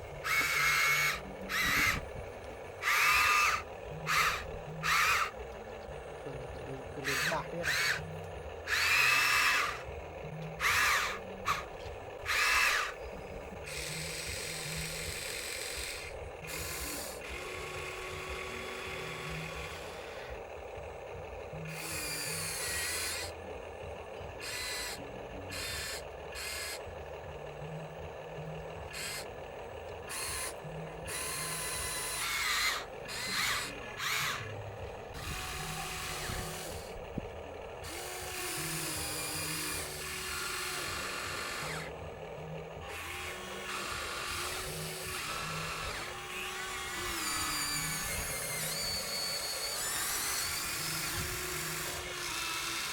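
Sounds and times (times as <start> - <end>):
low hum: 0.0 - 52.2
small electric motors whining: 0.0 - 52.9.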